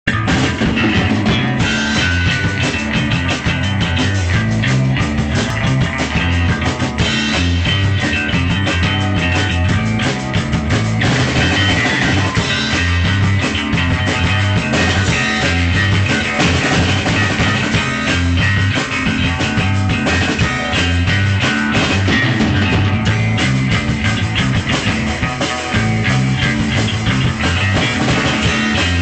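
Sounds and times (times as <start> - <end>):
bass line: 0.0 - 29.0
rock music with electric guitar: 0.0 - 29.0
drum kit quick hits: 0.1 - 29.0.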